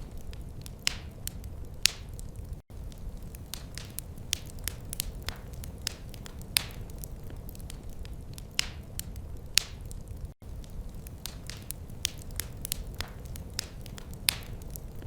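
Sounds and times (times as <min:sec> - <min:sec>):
fire pops and snaps: 0:00.0 - 0:15.0
low rumble of burning fire: 0:00.0 - 0:15.0.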